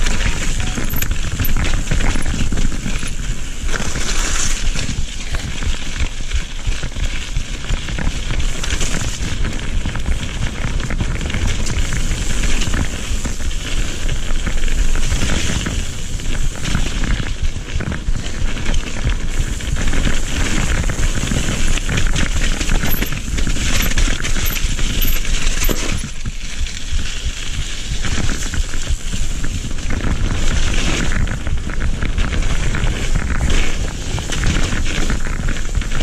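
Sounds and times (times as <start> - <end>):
bike clattering and rattling: 0.0 - 36.0
tyres rumbling over dirt: 0.0 - 36.0.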